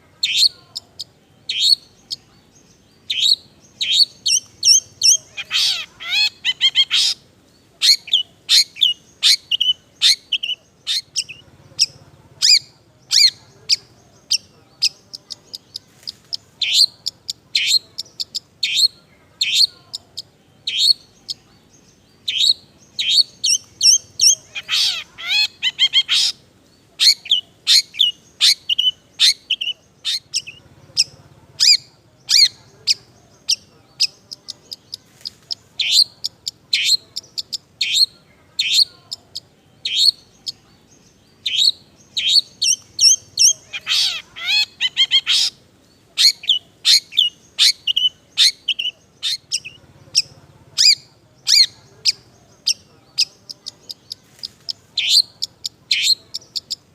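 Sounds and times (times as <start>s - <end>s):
bird chattering song: 0.0s - 56.9s.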